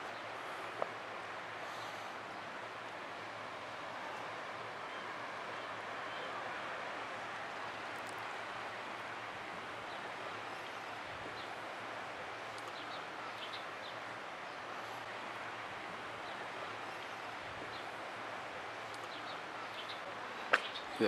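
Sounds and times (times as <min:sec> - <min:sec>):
open air hiss over water: 0:00.0 - 0:21.0.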